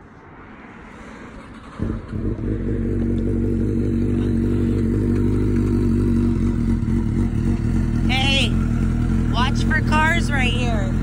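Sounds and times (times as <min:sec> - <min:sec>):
motorcycle engine idling: 0:01.4 - 0:11.0.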